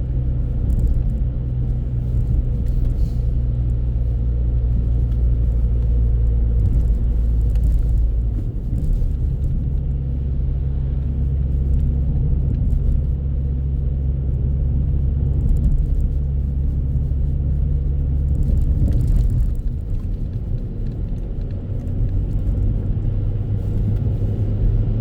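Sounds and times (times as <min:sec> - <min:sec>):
car rumbling on the move: 0:00.0 - 0:25.0.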